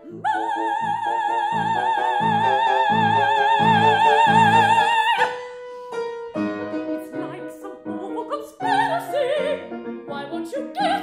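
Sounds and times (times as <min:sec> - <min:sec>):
operatic soprano singing: 0:00.0 - 0:05.4, 0:07.0 - 0:11.0
grand piano chords: 0:00.0 - 0:11.0.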